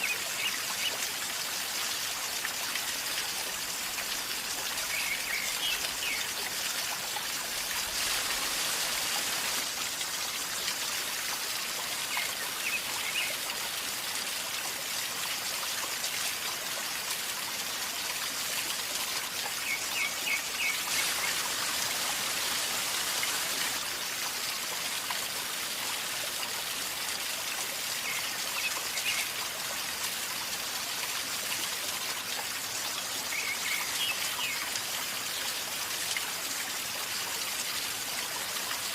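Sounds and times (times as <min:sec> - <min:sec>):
river gurgling and trickling: 0:00.0 - 0:38.9.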